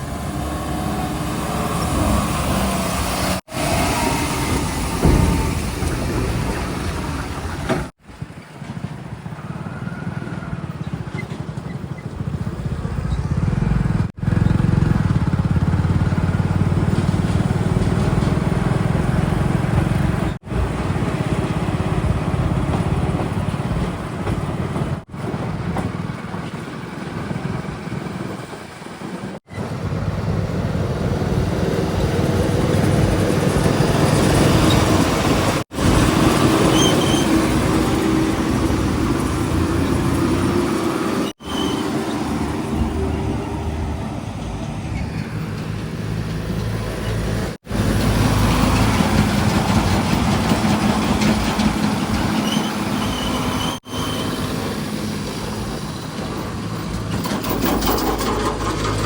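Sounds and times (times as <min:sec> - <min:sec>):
heavy diesel engines droning: 0:00.0 - 0:59.0.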